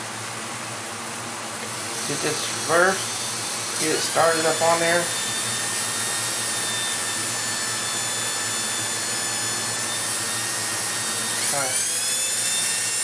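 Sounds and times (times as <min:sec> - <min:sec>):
electric drill whining: 0:01.6 - 0:13.0.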